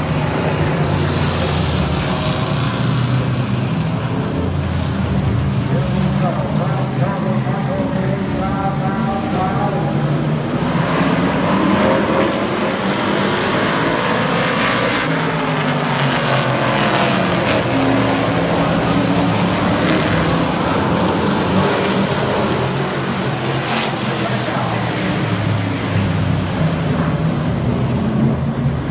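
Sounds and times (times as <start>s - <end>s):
race truck engines passing: 0.0s - 28.9s.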